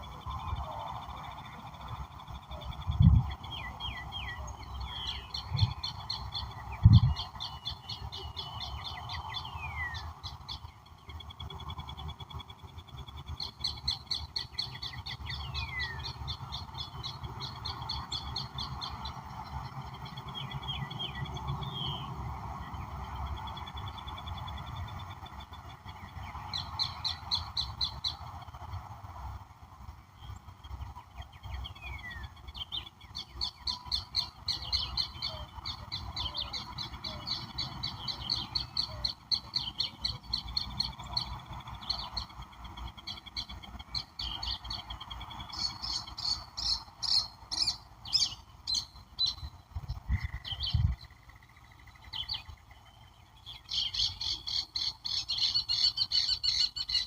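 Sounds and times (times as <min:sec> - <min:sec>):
background hum: 0:00.0 - 0:57.0
wild birds calling and singing: 0:00.0 - 0:57.0.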